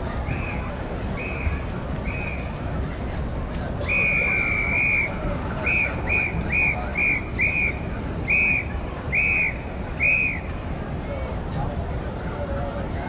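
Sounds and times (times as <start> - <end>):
crowd noise hum: 0.0 - 13.0.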